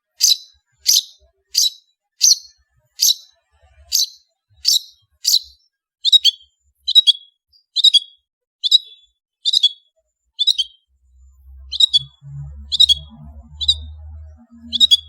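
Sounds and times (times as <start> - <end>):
bird high chirp calls: 0.0 - 15.0.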